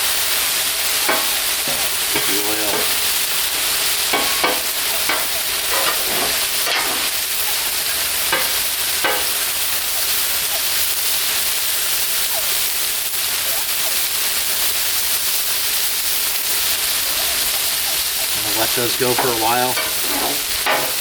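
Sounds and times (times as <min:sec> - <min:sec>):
vegetables sizzling on a griddle: 0:00.0 - 0:21.0.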